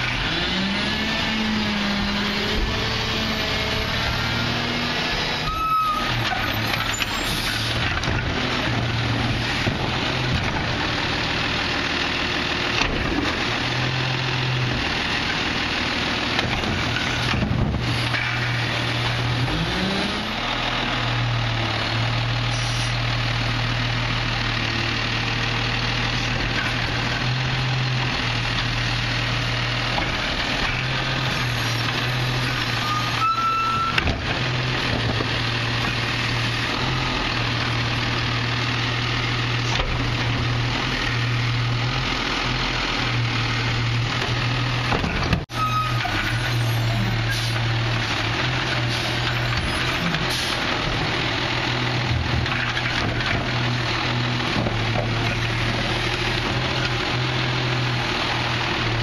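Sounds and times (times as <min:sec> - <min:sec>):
garbage truck diesel engine running: 0:00.0 - 0:19.5, 0:20.2 - 0:59.0.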